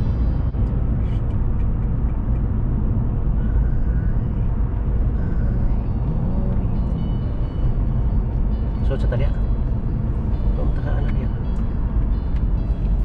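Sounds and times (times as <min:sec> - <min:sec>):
car driving on highway: 0:00.0 - 0:13.0.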